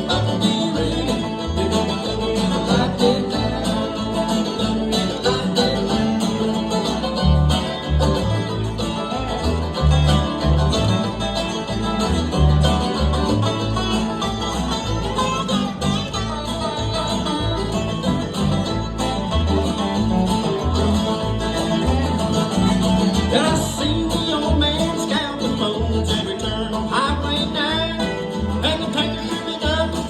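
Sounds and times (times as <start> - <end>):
bluegrass band playing: 0.0 - 30.0
picked banjo: 0.0 - 30.0.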